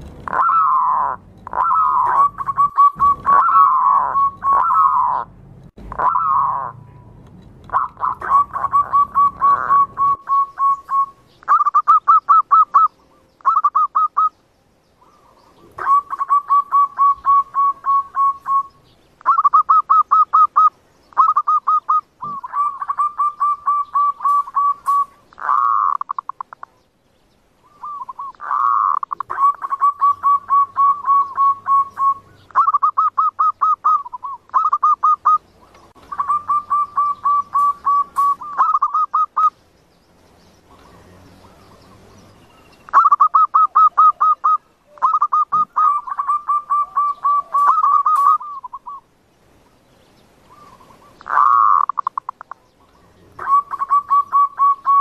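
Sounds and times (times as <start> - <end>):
doves cooing: 0.0 - 14.4, 15.0 - 26.9, 27.6 - 39.6, 40.6 - 49.1, 50.4 - 55.0.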